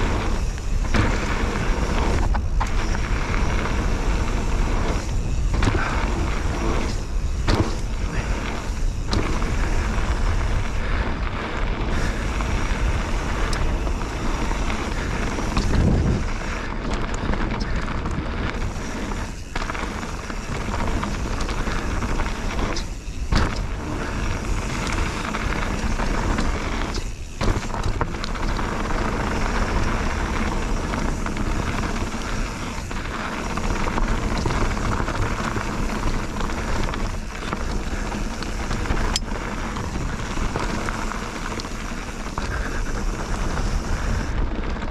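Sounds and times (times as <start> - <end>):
bike knocking on rough ground: 0.0 - 44.9
bike tyres rolling over stones: 0.0 - 44.9.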